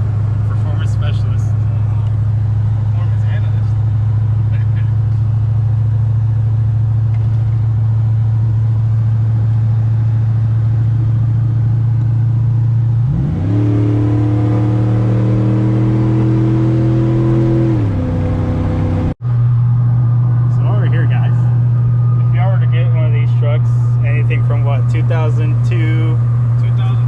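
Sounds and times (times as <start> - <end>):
pickup engine revving: 0.0 - 27.0.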